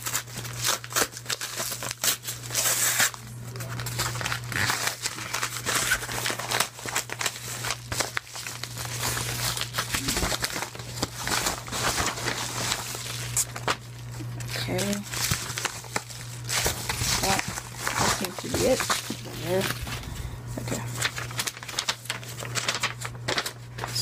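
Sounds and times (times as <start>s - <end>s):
padded envelope being torn open: 0.0s - 24.0s
paper crinkling and rustling: 0.0s - 24.0s
steady low hum: 0.1s - 24.0s.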